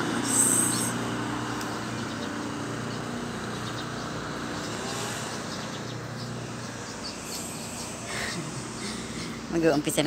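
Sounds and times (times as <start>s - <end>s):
distant motor hum: 0.0s - 10.0s.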